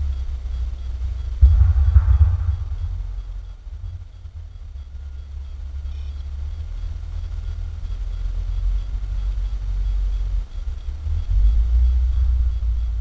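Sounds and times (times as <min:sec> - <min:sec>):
heavy machine rumbling: 0:00.0 - 0:13.0.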